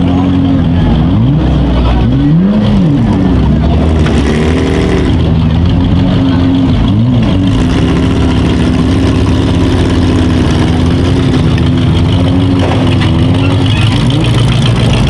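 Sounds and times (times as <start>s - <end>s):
car engines at high revs: 0.0s - 15.0s.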